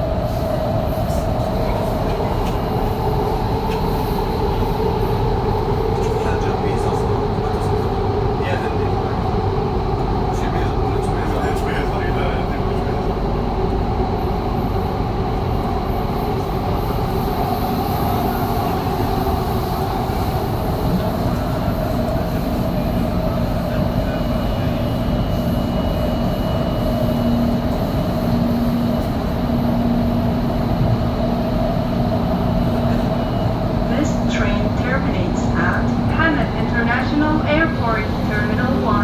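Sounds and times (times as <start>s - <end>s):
train motor hum: 0.0s - 39.0s
train wheels rumbling on rail: 0.0s - 39.0s.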